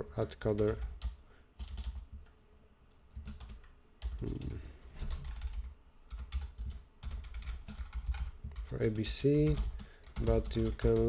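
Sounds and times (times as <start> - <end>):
typing on computer keyboard: 0.6 - 2.3, 3.1 - 8.7, 9.4 - 11.0.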